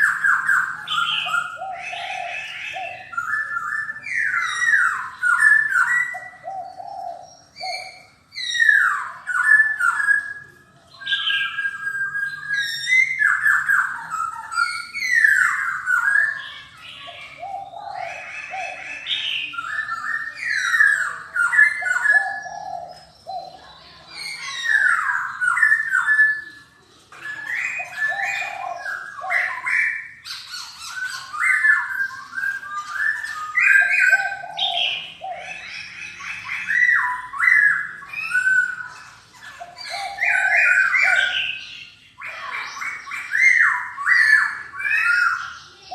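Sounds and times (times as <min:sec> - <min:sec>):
bird singing whistled phrases: 0:00.0 - 0:45.9.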